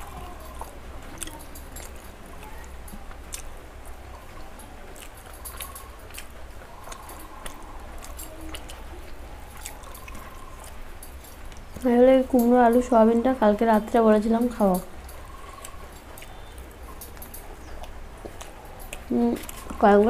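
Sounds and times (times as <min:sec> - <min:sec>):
chewing and mouth smacks: 0:00.0 - 0:12.6, 0:14.5 - 0:20.0.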